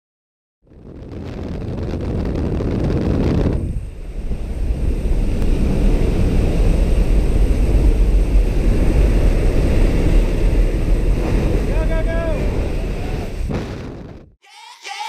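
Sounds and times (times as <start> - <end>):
plane engine and slipstream rumble: 0.7 - 14.1.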